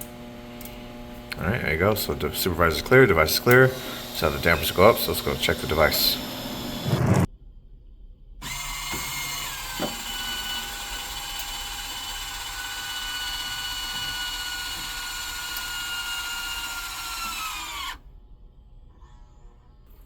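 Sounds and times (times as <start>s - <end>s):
small electric motor whining: 0.0s - 7.3s, 8.4s - 18.0s.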